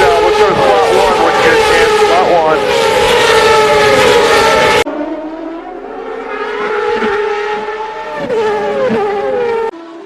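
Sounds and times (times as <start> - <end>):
race car engines high revs: 0.0 - 10.0.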